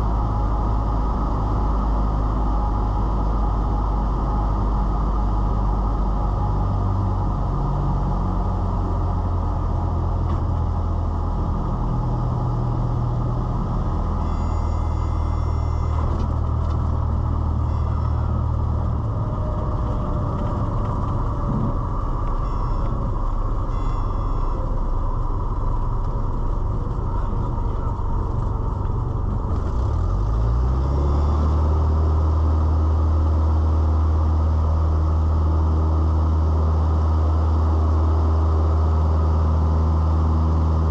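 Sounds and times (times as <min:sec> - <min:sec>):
propeller plane engine: 0:00.0 - 0:40.9.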